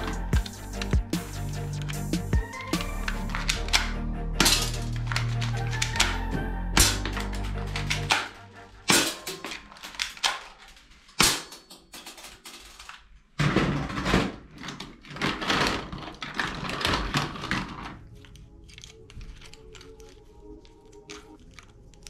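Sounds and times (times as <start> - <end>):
plastic toys clattering: 2.6 - 6.2, 6.8 - 22.0.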